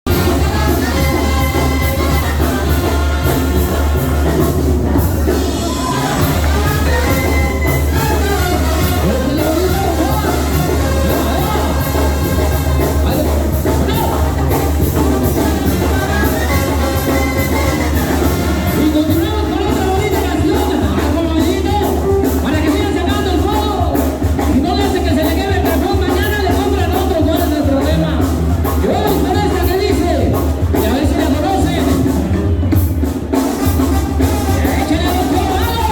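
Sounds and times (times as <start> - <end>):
latin music with singing: 0.0 - 35.9
heavy bass: 0.1 - 35.9.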